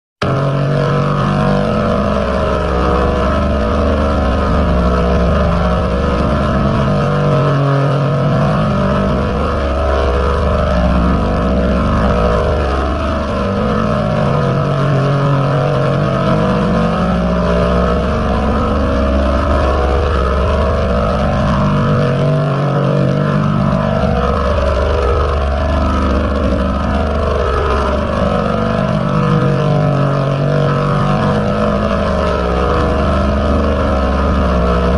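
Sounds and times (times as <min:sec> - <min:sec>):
dense pitch-shifted drone: 0:00.2 - 0:34.9.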